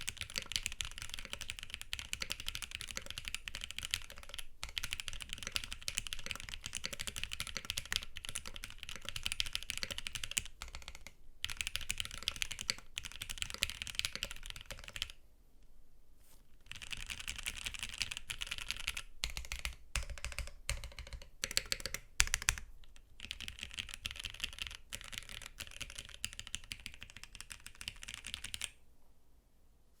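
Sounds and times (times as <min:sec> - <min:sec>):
mechanical keyboard typing: 0:00.0 - 0:15.2, 0:16.7 - 0:28.8.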